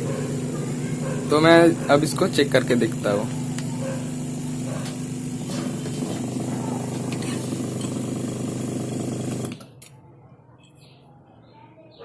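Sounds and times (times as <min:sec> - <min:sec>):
electric fan motor humming: 0:00.0 - 0:09.7.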